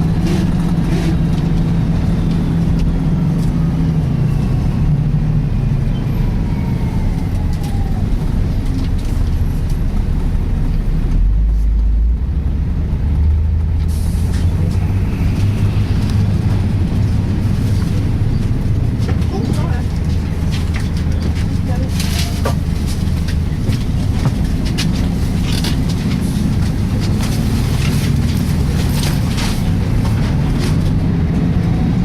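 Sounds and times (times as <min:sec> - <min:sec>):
bus diesel engine hum: 0:00.0 - 0:32.0.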